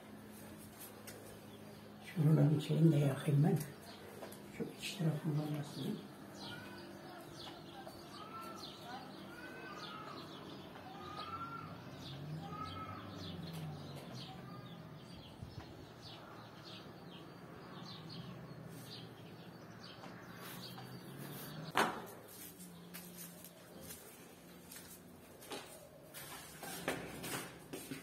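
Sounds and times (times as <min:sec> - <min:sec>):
small birds chirping: 0:00.1 - 0:28.0.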